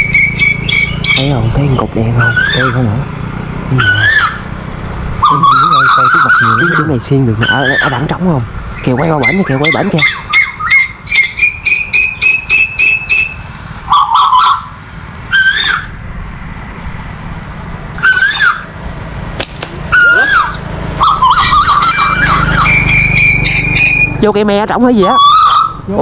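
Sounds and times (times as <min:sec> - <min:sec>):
loud bird calls: 0:00.0 - 0:26.0.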